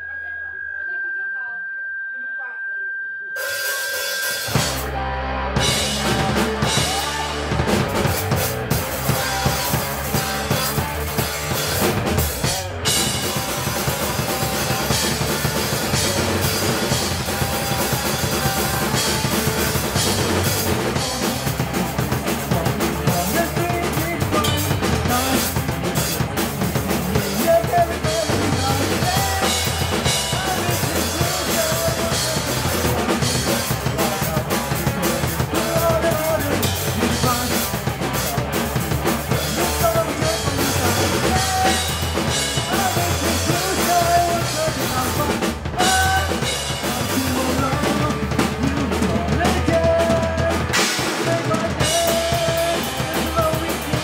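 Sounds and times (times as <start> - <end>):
drum kit: 3.4 - 54.0
electric guitar: 3.6 - 54.0.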